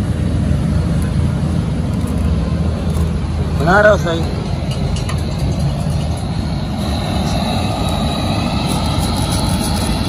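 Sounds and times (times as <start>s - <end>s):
machinery rumbling: 0.0s - 10.0s.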